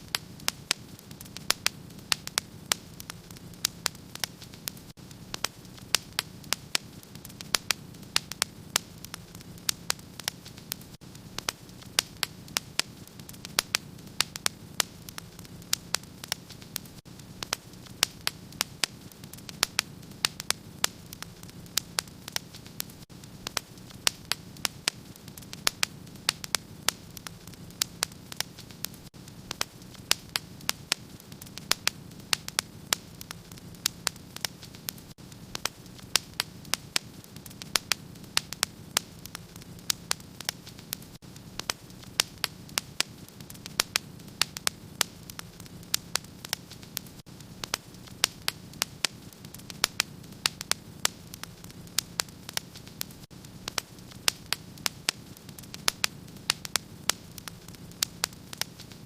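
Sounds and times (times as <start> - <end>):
fire crackling and popping: 0.0 - 59.0
low rushing of fire: 0.1 - 58.8.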